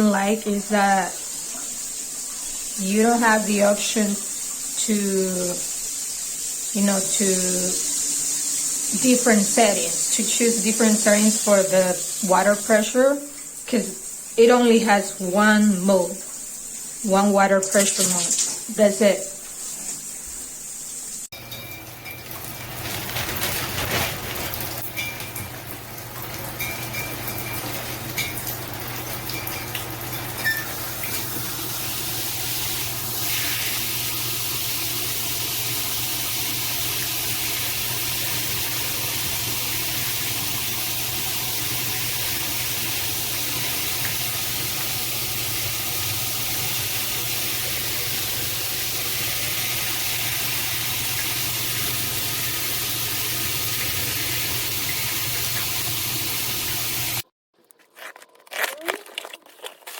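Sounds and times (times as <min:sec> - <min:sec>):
shower water spraying: 0:00.0 - 0:21.3, 0:22.0 - 0:57.2.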